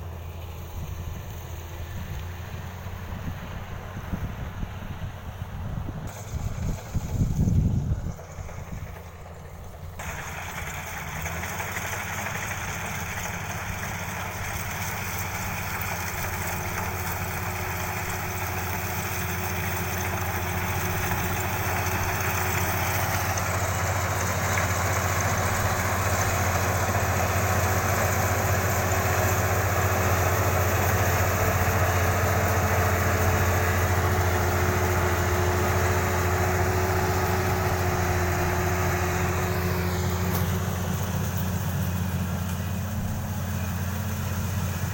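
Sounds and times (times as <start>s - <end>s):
combine harvester diesel engine: 0.0s - 44.9s.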